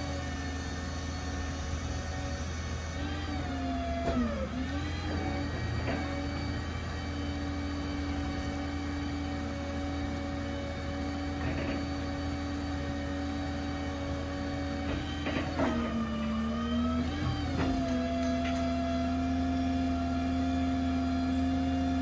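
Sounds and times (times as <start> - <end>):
hydraulic crane whine: 0.0 - 22.0.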